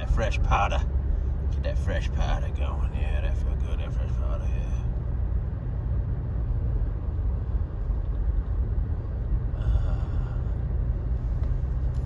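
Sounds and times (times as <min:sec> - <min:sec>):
car engine and tyres in snow: 0:00.0 - 0:12.0.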